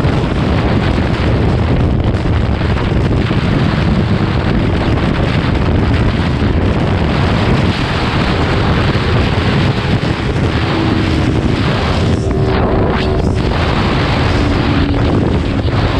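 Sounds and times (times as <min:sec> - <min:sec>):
motorcycle engine running: 0:00.0 - 0:15.9
wind rushing over microphone: 0:00.0 - 0:15.9.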